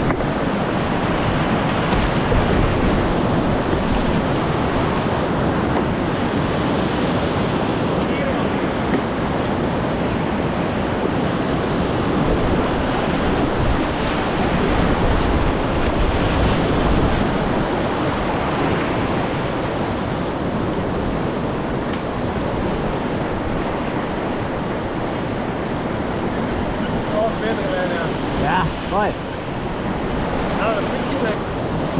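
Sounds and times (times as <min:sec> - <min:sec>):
river rapids rushing: 0:00.0 - 0:31.9.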